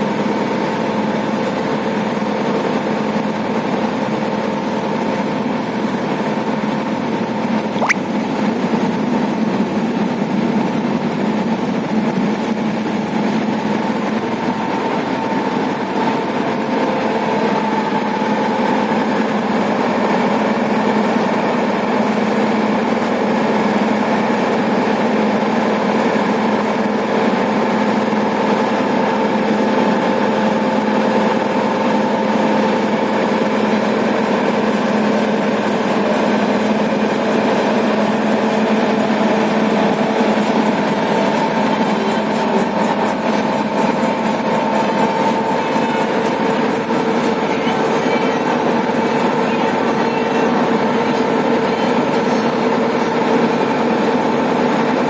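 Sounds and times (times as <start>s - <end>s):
engine drone: 0.0s - 55.0s.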